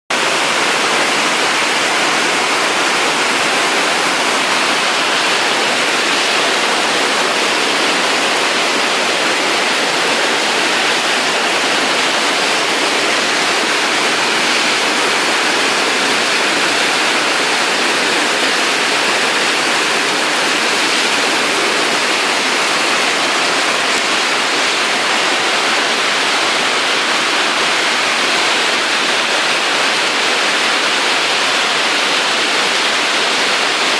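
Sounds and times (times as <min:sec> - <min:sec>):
very heavy rain pouring: 0:00.1 - 0:33.9.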